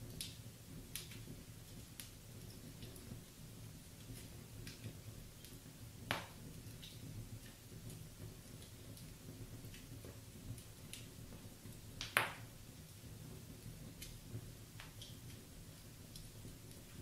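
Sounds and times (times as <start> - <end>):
logs crackling in fireplace: 0.0 - 17.0
sharp pops of fire: 0.0 - 17.0.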